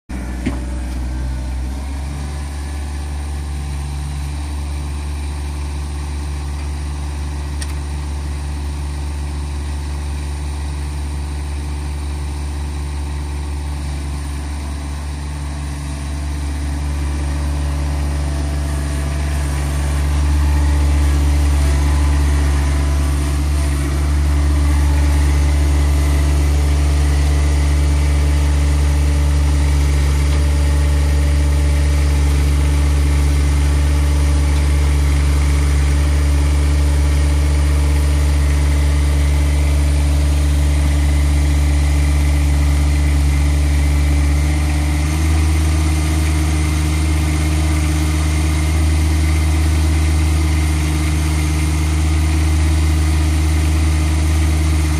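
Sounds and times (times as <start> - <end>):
tractor diesel engine running: 0.1 - 54.9.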